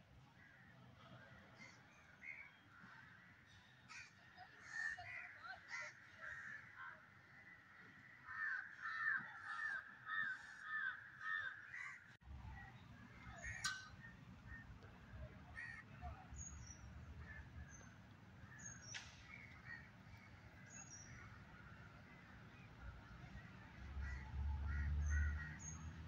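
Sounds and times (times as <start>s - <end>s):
faint birds calling: 1.6s - 26.0s.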